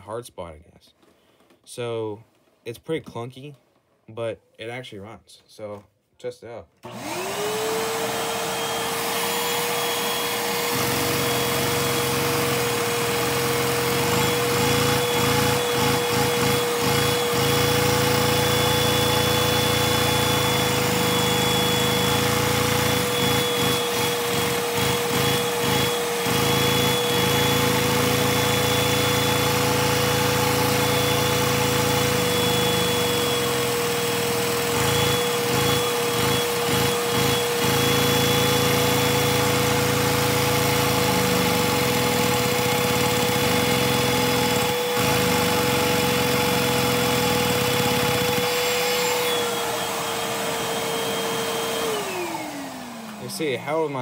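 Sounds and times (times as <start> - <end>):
vacuum cleaner whining: 6.8 - 54.0.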